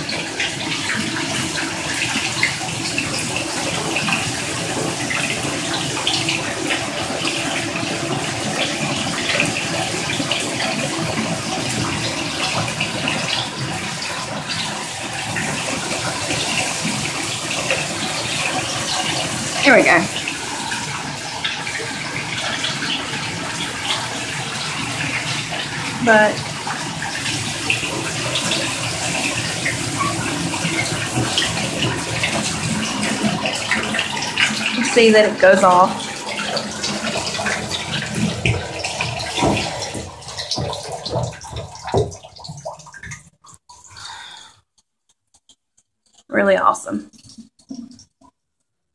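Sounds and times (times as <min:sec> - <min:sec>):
shower water spraying: 0:00.0 - 0:44.5
water splashing: 0:00.0 - 0:48.5.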